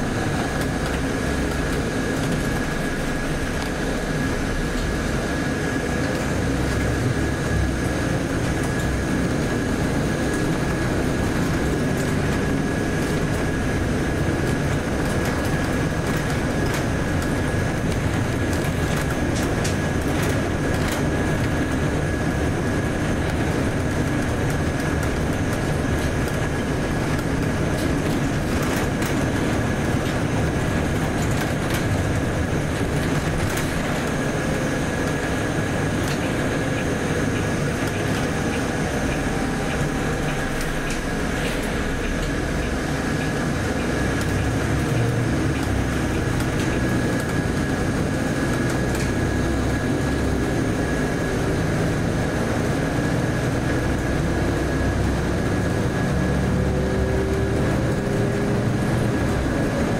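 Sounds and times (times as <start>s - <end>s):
bus diesel and road rumble: 0.0s - 59.9s.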